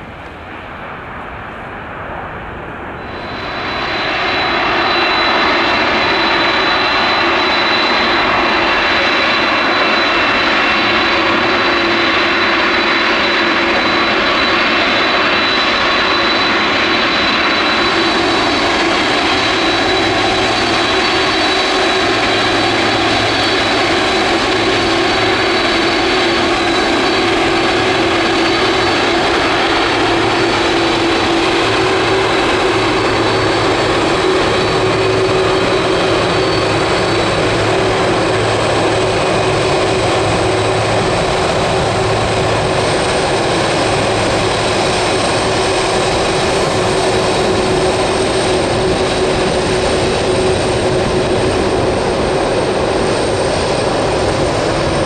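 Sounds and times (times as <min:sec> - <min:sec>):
high engine whine: 0:00.0 - 0:55.0
jet engines taking off: 0:00.0 - 0:55.0.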